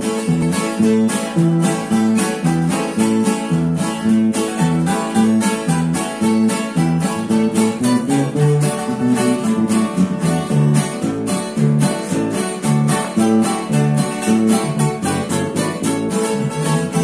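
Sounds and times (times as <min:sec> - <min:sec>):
acoustic guitars strumming: 0:00.0 - 0:17.0
electric bass line: 0:00.0 - 0:17.0.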